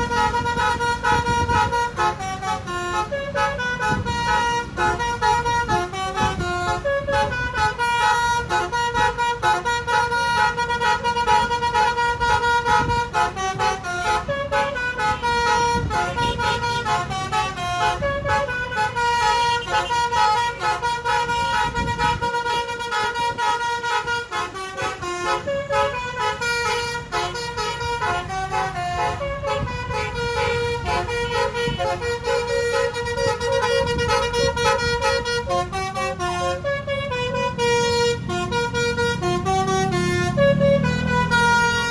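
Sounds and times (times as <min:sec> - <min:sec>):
bus musical air horn: 0:00.0 - 0:41.9
engine and road rumble: 0:00.0 - 0:41.9.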